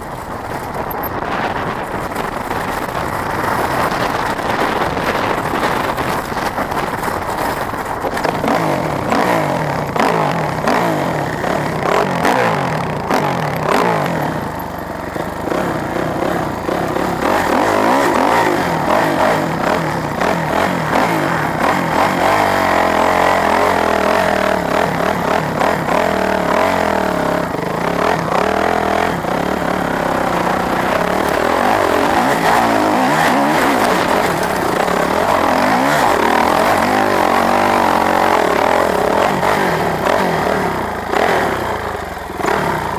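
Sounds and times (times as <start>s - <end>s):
bike rattling: 0.0s - 42.9s
dirt bike engine under load: 0.0s - 42.9s.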